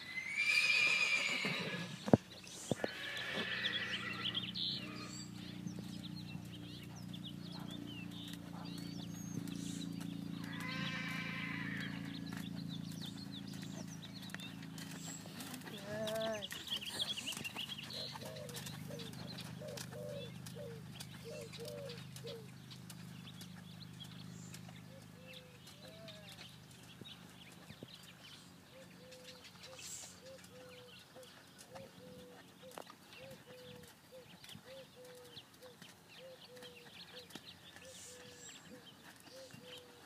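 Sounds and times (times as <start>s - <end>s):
horse working in sand: 0.0s - 40.0s
small birds chirping: 0.2s - 40.0s.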